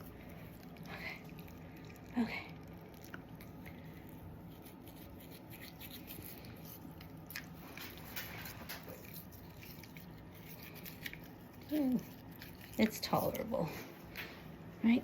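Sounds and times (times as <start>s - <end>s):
toothbrush scrubbing teeth: 0.0s - 13.9s.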